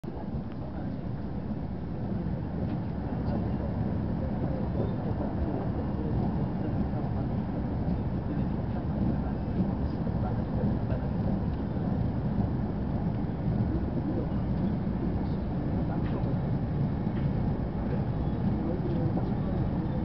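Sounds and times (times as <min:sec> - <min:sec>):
train cabin low rumble: 0:00.0 - 0:20.0.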